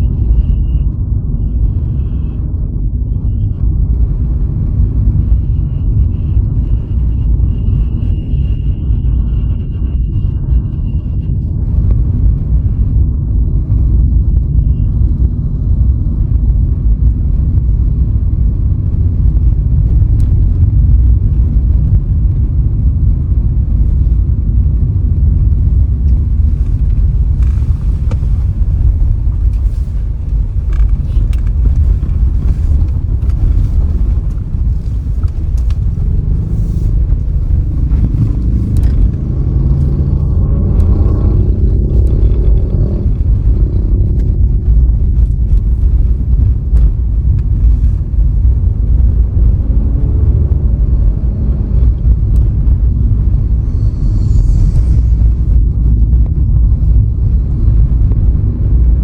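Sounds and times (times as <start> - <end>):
car driving on road: 0.0 - 59.0.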